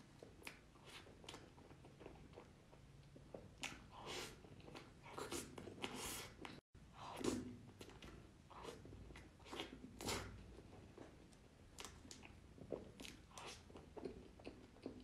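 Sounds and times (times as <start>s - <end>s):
wet mouth clicks and chewing: 0.1s - 15.0s.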